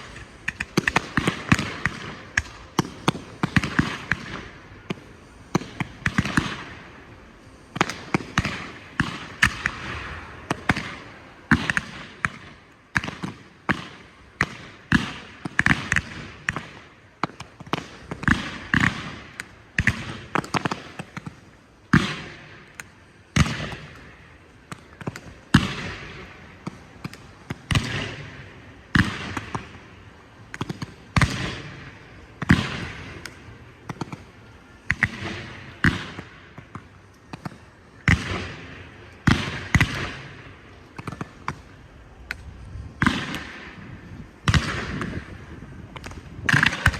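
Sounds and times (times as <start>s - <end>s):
fireworks popping and crackling: 0.0s - 46.9s.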